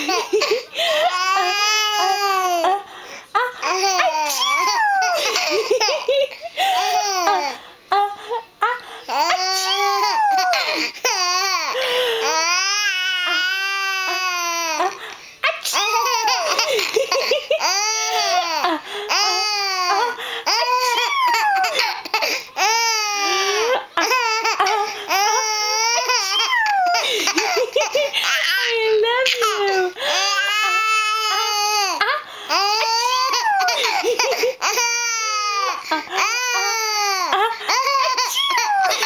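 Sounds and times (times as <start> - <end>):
baby laughing: 0.0 - 2.7, 3.4 - 7.6, 9.1 - 39.0.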